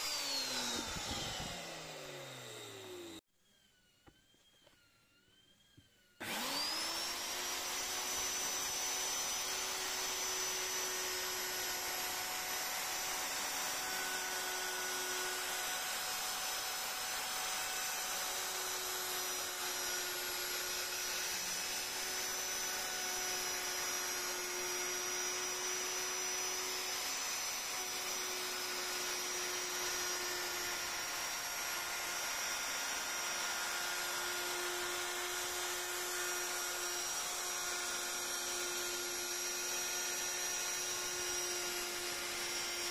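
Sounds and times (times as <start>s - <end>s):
router whining: 0.0s - 42.9s.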